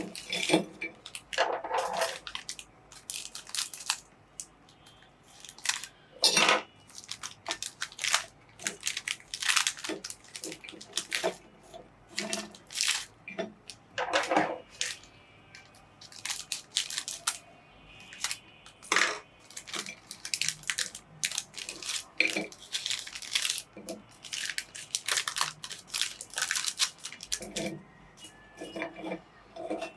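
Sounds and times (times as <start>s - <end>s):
biscuits crunching in a grinder: 0.0s - 6.0s, 6.8s - 11.5s, 12.1s - 15.1s, 16.0s - 18.8s, 19.4s - 28.4s.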